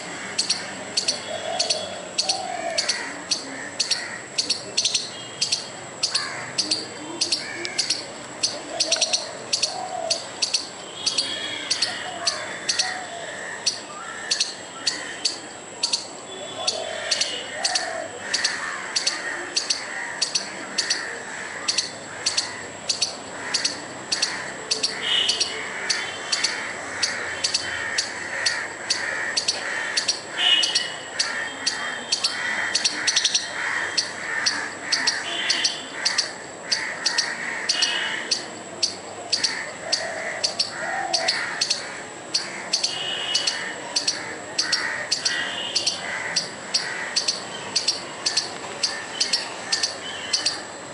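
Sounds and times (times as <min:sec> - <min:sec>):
squirrel alarm chirps: 0:00.4 - 0:50.9.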